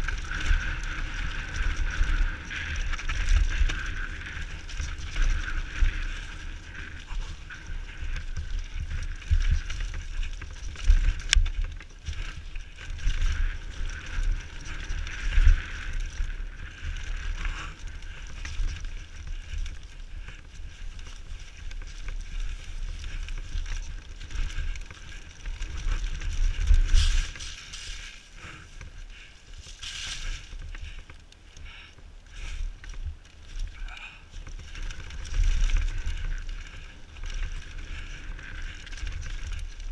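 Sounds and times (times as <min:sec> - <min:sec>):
bike knocking and rattling: 0:00.0 - 0:39.9.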